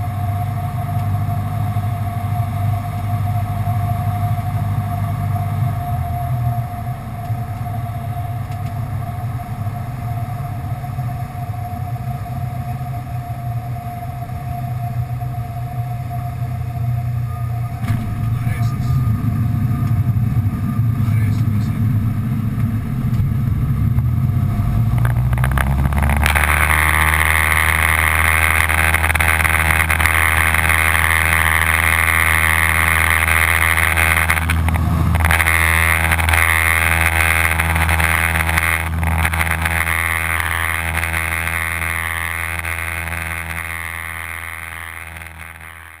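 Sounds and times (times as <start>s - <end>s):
light aircraft piston engine: 0.0s - 46.0s.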